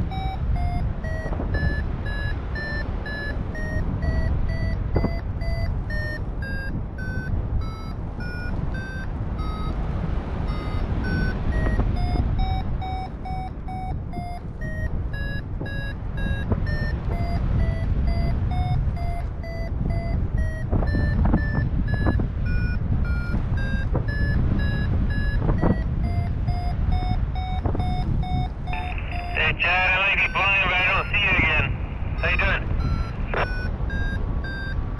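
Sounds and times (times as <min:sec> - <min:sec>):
variometer beeping: 0:00.0 - 0:34.9
wind on microphone: 0:00.0 - 0:34.9.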